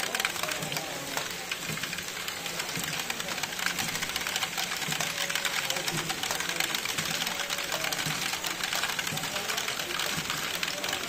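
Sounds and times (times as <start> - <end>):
plastic parts and balls clattering: 0.0 - 11.0.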